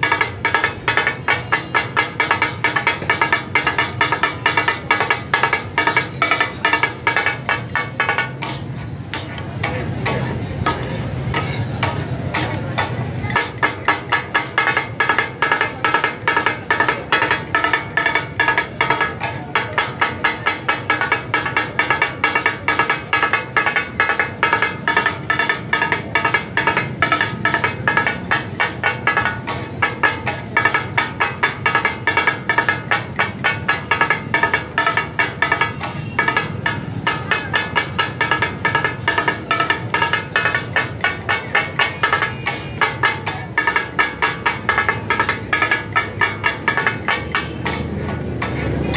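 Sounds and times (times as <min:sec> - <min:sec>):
metal spatulas clattering on griddle: 0:00.0 - 0:48.9.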